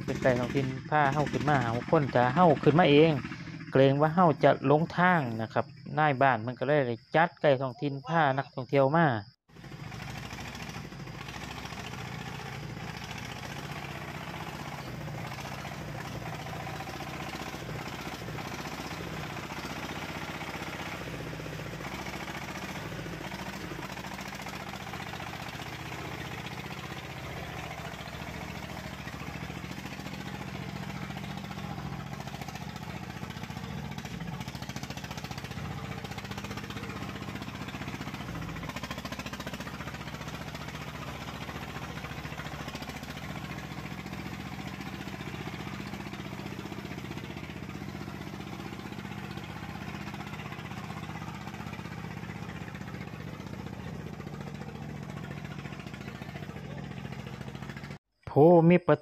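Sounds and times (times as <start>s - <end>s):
vehicle engine humming: 0.0s - 7.1s, 9.4s - 58.0s.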